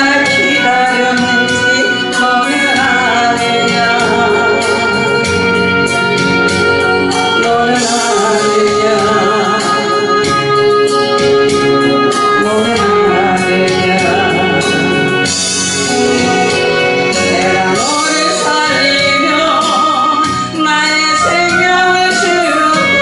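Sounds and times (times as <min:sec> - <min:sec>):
instrumental accompaniment: 0:00.0 - 0:23.0
woman singing into a microphone: 0:00.0 - 0:23.0.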